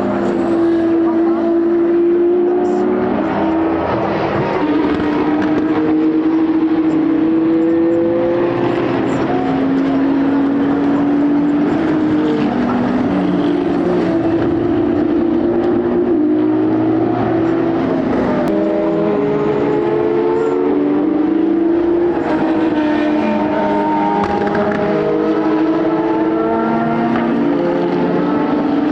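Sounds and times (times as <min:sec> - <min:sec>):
race car engines: 0:00.0 - 0:28.9.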